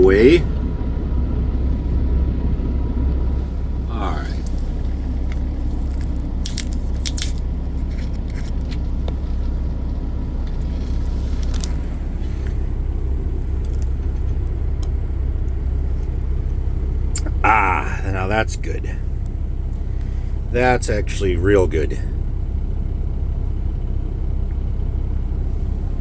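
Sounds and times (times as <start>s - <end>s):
car cabin rumble: 0.0s - 23.8s.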